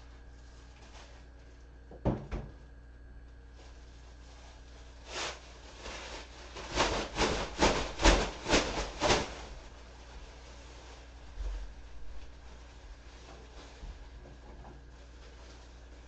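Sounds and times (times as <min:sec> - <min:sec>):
plastic bag rustling: 0:00.0 - 0:01.6, 0:03.5 - 0:16.0.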